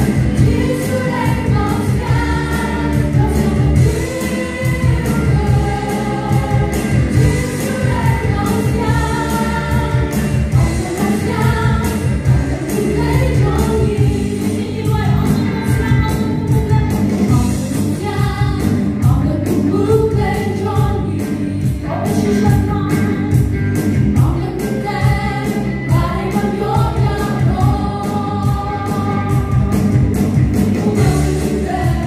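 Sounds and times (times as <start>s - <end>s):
women singing together: 0.0s - 23.5s, 24.1s - 30.1s, 30.7s - 32.0s
band playing steady beat: 0.0s - 32.0s.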